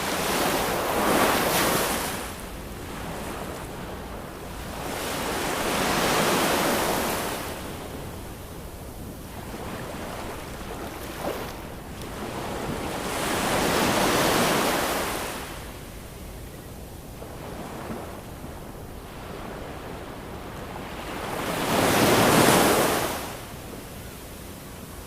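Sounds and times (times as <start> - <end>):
ocean waves washing on shore: 0.0 - 25.0.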